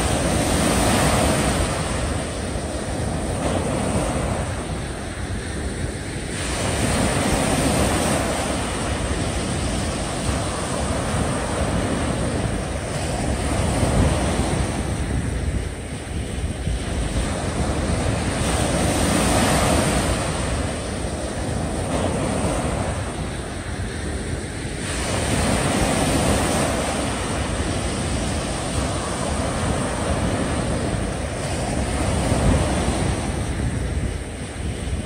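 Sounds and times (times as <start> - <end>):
small waves breaking on beach: 0.0 - 35.0
wind on microphone: 0.0 - 35.0.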